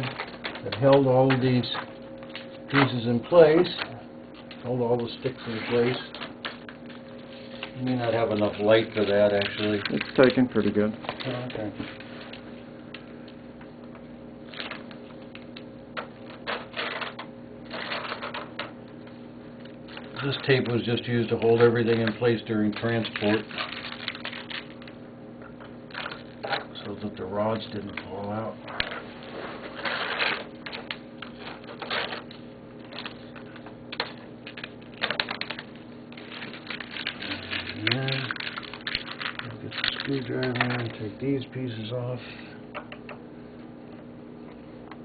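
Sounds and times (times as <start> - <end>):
tape peeling with crackling rips: 3.6 - 13.1, 14.4 - 41.1.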